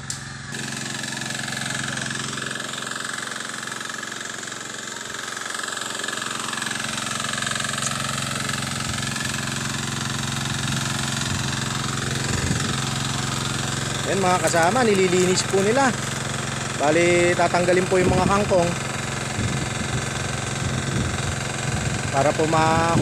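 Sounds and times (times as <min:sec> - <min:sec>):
small engine running steadily: 0:00.0 - 0:23.0.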